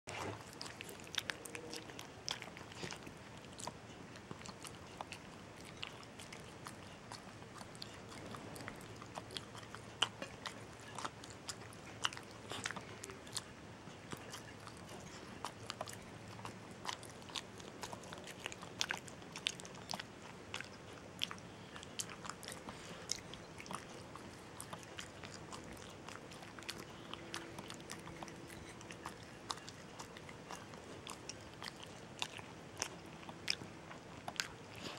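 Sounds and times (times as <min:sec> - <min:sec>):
dog licking and chewing: 0:00.1 - 0:34.9.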